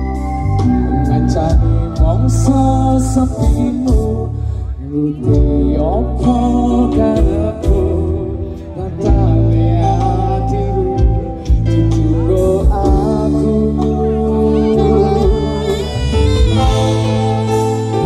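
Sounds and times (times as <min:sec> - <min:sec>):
live band through a pa: 0:00.0 - 0:18.0
person singing: 0:00.0 - 0:18.0
steady bass: 0:00.0 - 0:18.0.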